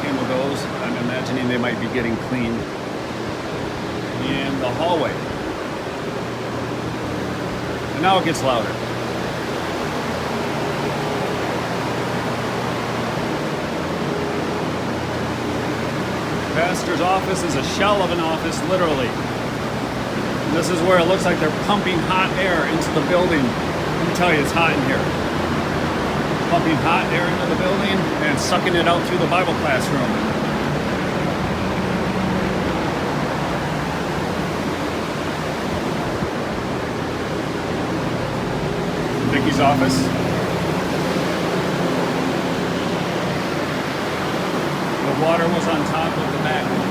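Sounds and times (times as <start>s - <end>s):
faint hum: 0.0s - 46.9s
fans rushing air: 0.0s - 46.9s.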